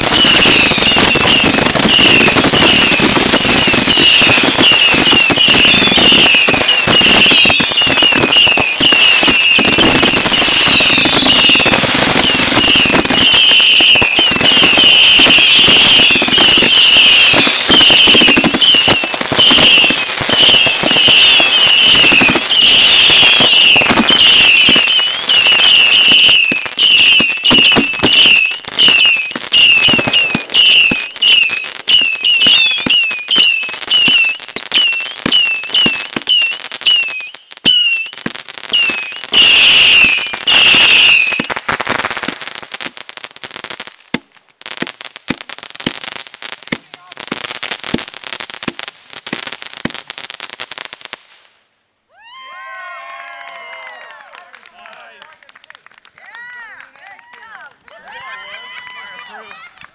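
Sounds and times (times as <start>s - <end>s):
fireworks bangs and crackling: 0.0s - 51.6s, 52.2s - 59.9s
fireworks whistles and screeches: 0.0s - 51.6s.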